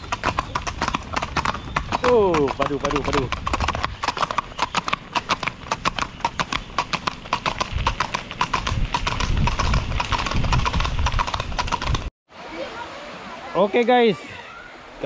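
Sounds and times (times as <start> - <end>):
horse hooves on pavement: 0.0 - 12.1.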